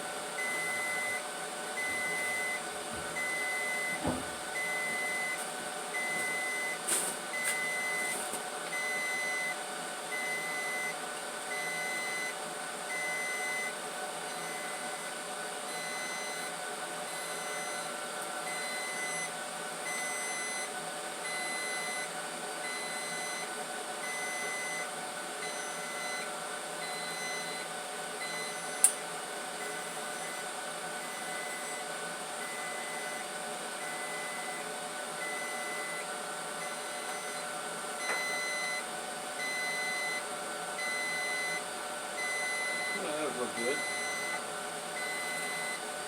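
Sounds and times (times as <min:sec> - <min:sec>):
electrical hum: 0:00.0 - 0:46.0
electronic warning beep: 0:00.4 - 0:01.2, 0:01.8 - 0:02.6, 0:03.2 - 0:05.4, 0:06.0 - 0:13.8, 0:14.4 - 0:16.5, 0:17.1 - 0:17.9, 0:18.5 - 0:19.3, 0:19.9 - 0:29.0, 0:29.6 - 0:33.2, 0:33.8 - 0:34.6, 0:35.2 - 0:41.6, 0:42.2 - 0:44.4, 0:45.0 - 0:45.8.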